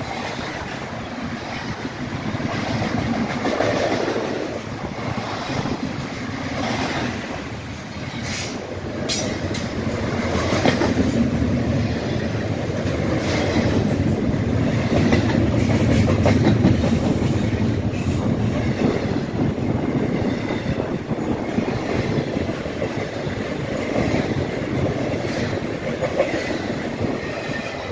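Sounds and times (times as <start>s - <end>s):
train wheels rumbling on track: 0.0s - 27.9s.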